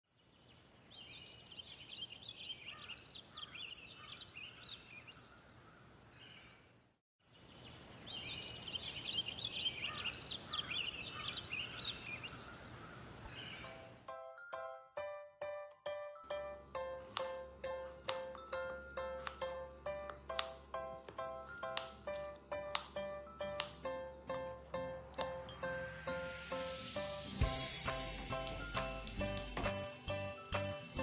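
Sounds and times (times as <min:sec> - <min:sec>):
birds chirping and warbling: 0:00.1 - 0:14.3, 0:16.2 - 0:27.2.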